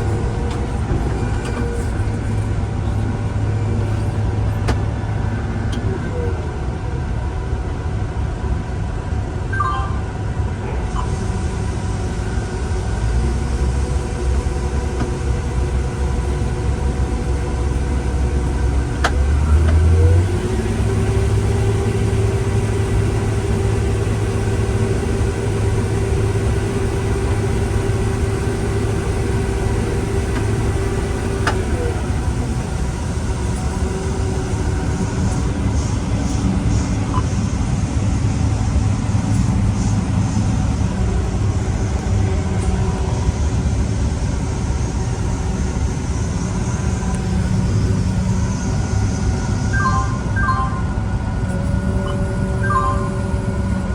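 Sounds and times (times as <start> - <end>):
tractor engine running: 0.0 - 53.9
low hum: 9.2 - 53.9.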